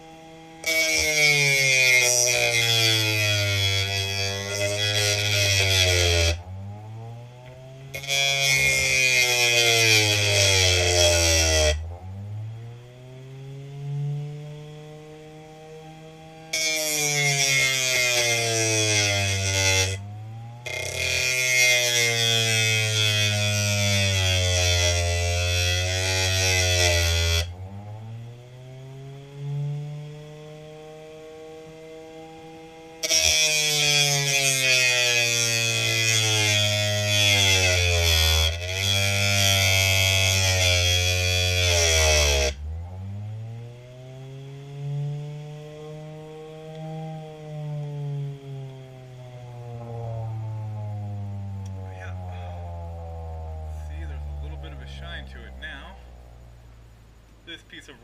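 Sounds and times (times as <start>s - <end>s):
gritty grinding hiss: 0.0s - 58.0s
motor whine: 0.0s - 58.0s.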